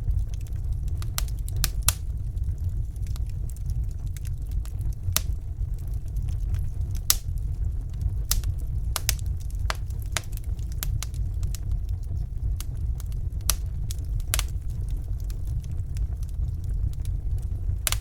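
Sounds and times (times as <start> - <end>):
low rumble of fire: 0.0 - 18.0
wood fire crackling and popping: 0.0 - 18.0.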